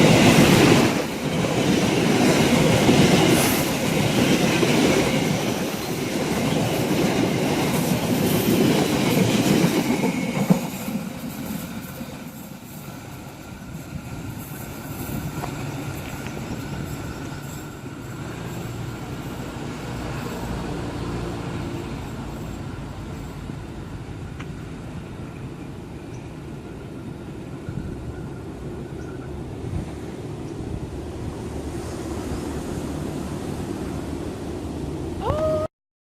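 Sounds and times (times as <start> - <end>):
passenger train rumbling past: 0.0 - 35.6.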